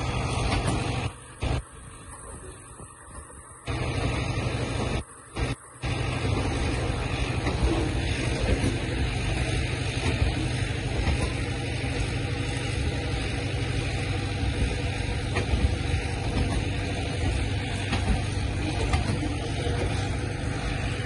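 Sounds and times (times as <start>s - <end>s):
freight wagons rumbling on rails: 0.0s - 21.0s.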